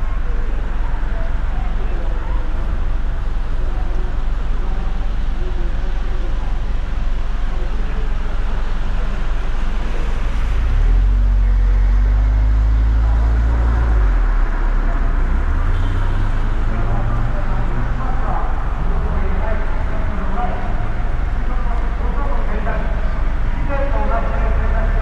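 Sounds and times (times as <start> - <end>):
faint voices: 0.0 - 25.0
vehicle engine rumble: 0.0 - 25.0.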